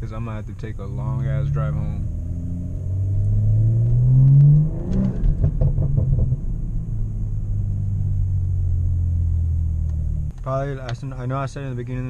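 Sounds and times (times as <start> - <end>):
exhaust popping: 0.0 - 12.0
car engine accelerating: 0.2 - 11.0.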